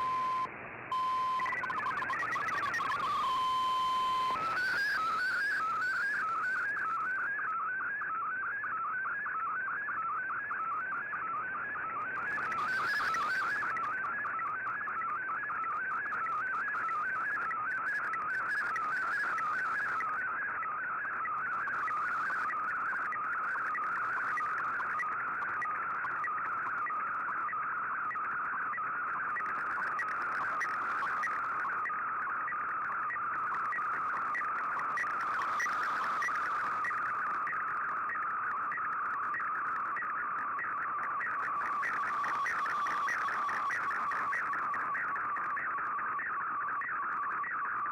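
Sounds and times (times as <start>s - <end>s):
faint radio hiss: 0.0s - 47.9s
warbling radio data signal: 0.0s - 47.9s.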